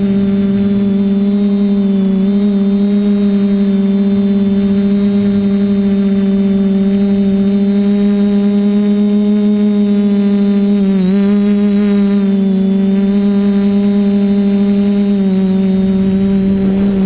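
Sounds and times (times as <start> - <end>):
high motor whine: 0.0 - 17.0
quadcopter propellers humming: 0.0 - 17.0.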